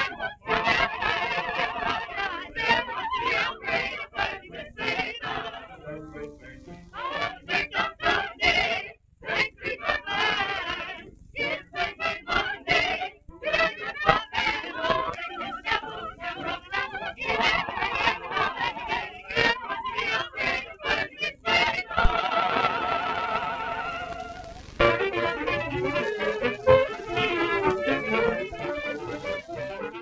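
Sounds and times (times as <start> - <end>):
mixed choir singing: 0.0 - 30.0.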